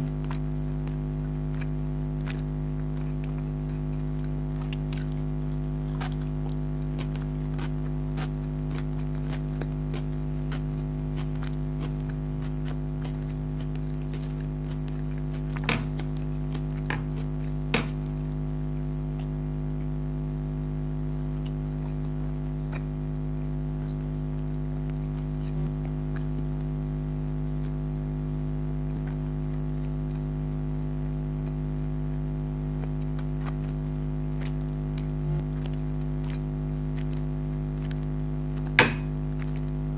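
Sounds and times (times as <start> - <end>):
low hum: 0.0 - 39.9
mouth clicks and chewing: 0.0 - 39.9.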